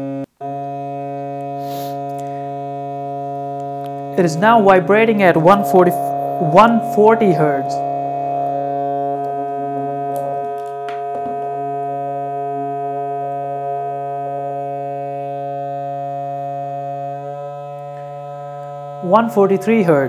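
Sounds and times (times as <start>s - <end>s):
buzzy test tone from loudspeaker: 0.0s - 20.0s.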